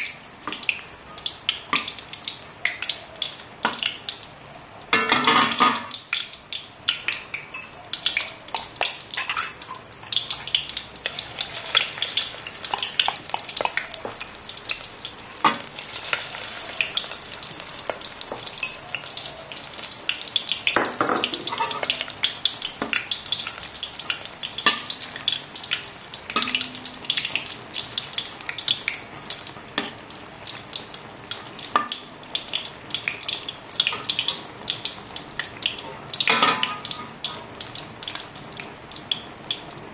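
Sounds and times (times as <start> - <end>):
fritters sizzling in hot oil: 0.0 - 39.9.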